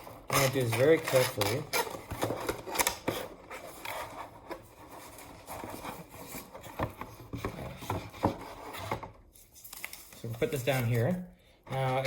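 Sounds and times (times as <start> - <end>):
packaging rustling: 0.0 - 8.1, 9.4 - 12.0
packaging clicks and scrapes: 0.0 - 12.0.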